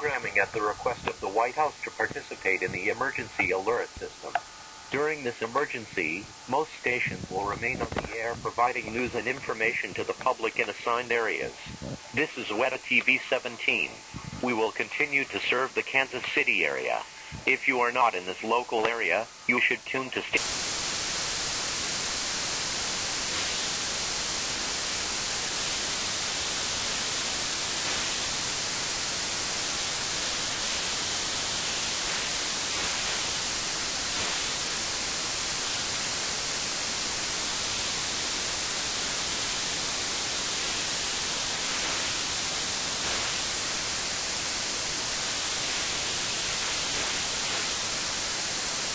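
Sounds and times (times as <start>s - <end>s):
television static hiss: 0.0s - 48.9s.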